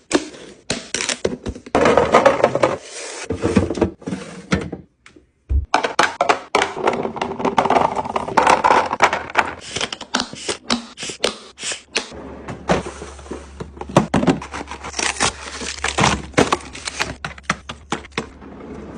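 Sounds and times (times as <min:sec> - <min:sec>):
kitchen items knocking and scraping: 0:00.1 - 0:04.9, 0:05.5 - 0:18.9.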